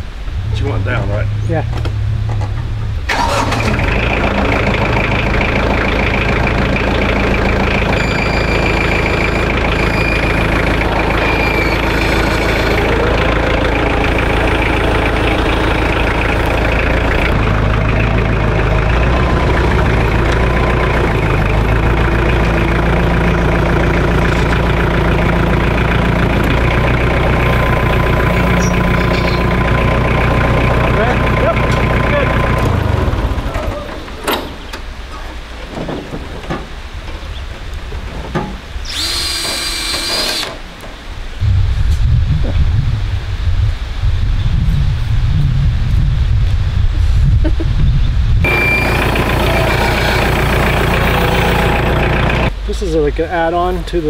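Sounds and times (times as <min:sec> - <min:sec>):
tractor diesel engine idling: 0:02.6 - 0:41.1, 0:48.4 - 0:54.0.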